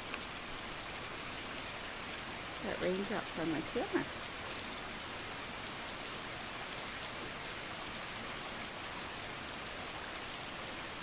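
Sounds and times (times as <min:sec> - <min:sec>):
rain drops ticking: 0:00.0 - 0:11.0
steady rain hiss: 0:00.0 - 0:11.0.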